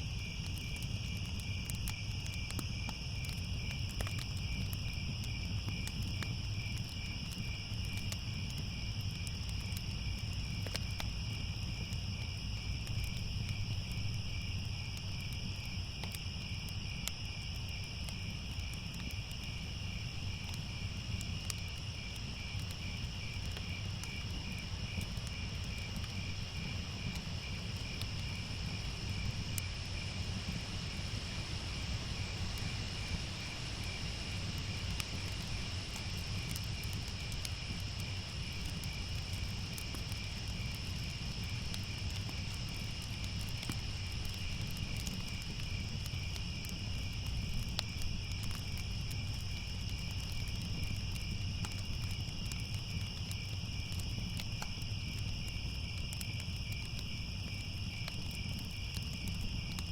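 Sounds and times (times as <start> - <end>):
crickets chirping: 0.0 - 59.9
fire crackling: 0.0 - 59.9.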